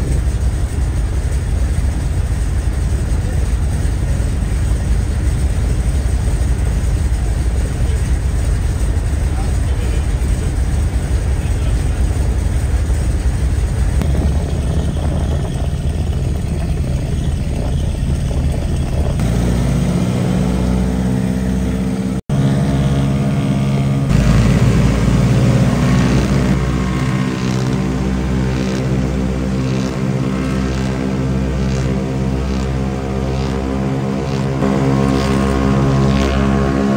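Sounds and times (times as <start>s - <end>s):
aircraft radial engines running: 0.0s - 36.9s.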